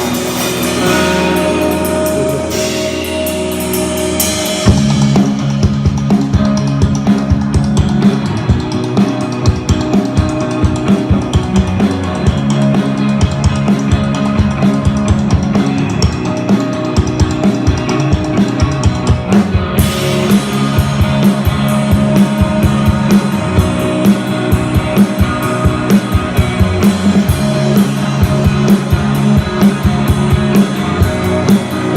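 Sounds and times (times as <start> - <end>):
drum kit: 0.0 - 31.9
guitar: 0.0 - 31.9
rock band playing live: 0.0 - 31.9.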